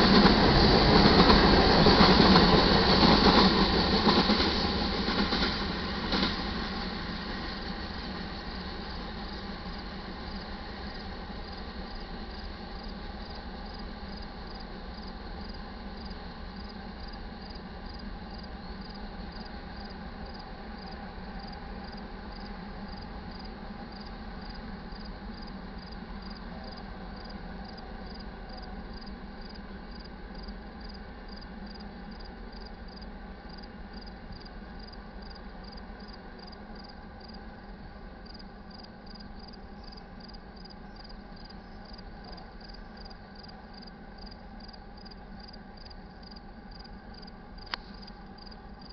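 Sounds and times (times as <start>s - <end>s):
cricket chirping: 8.5s - 37.4s, 38.2s - 48.9s.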